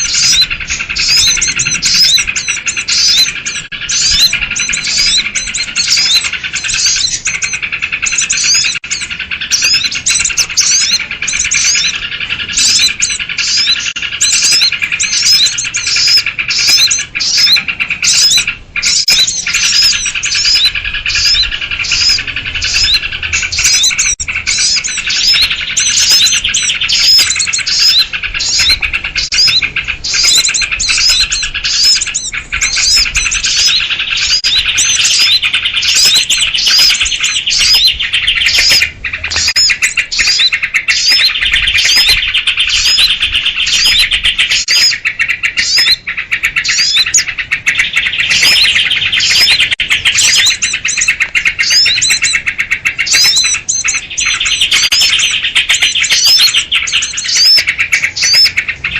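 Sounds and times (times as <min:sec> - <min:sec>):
birds chattering in alarm: 0:00.0 - 0:58.9.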